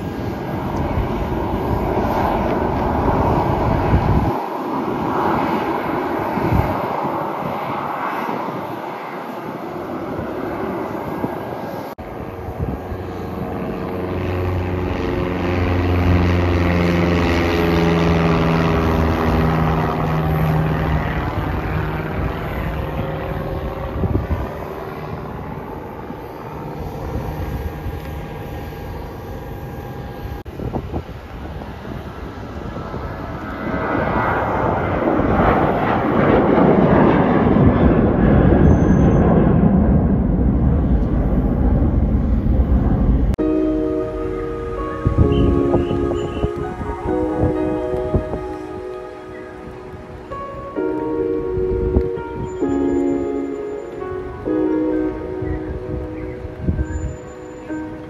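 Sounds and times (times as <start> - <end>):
jet engines roaring: 0.0 - 58.0
small plane engine droning: 0.0 - 58.0.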